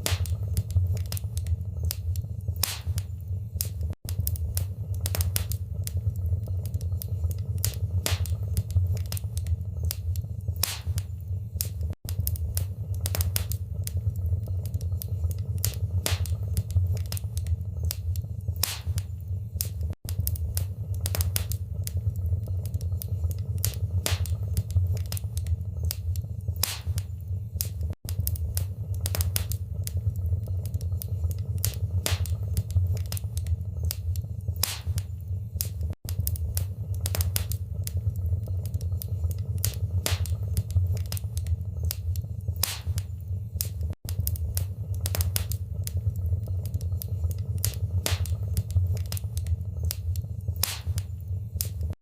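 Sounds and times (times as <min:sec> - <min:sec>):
low rumble of flames: 0:00.0 - 0:52.0
wood fire crackling and popping: 0:00.0 - 0:52.0.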